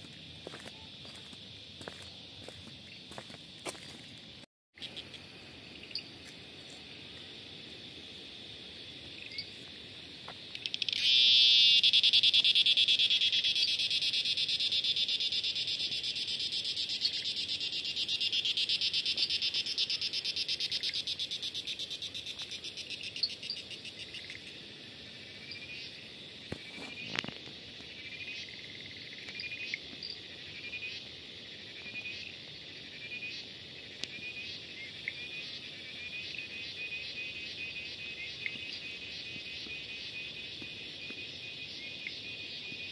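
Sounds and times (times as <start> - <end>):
insect chorus pulsing buzz: 0.0 - 42.9.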